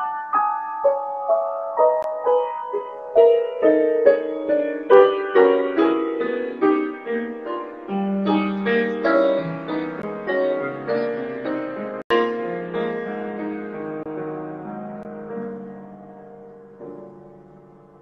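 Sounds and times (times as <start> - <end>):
solo piano: 0.0 - 18.0.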